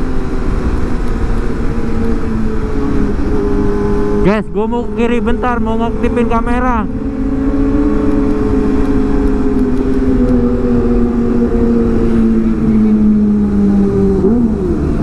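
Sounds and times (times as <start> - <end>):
low wind rumble: 0.0 - 15.0
motorcycle engine running: 0.0 - 15.0.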